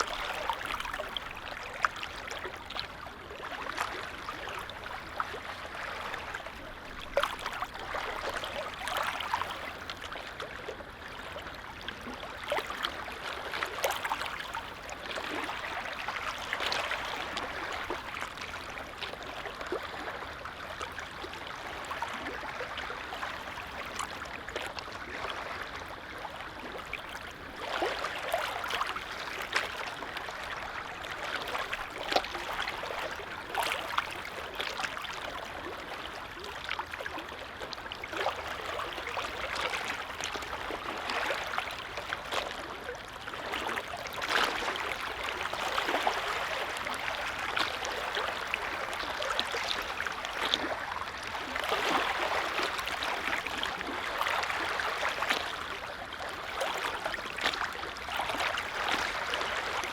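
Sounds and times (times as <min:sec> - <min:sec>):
small waves lapping: 0:00.0 - 0:59.9.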